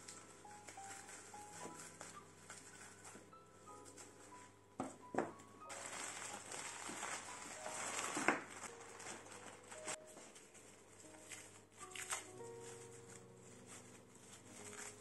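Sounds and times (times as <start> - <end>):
plastic bag crinkling: 0.0 - 4.4, 5.6 - 15.0.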